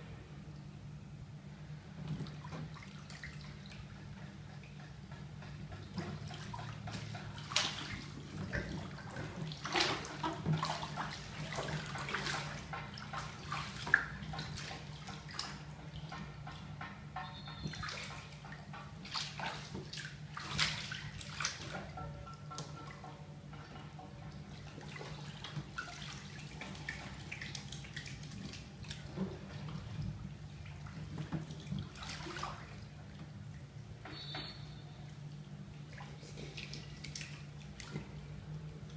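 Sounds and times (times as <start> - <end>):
bathwater sloshing and splashing: 1.7 - 34.4, 35.0 - 38.9.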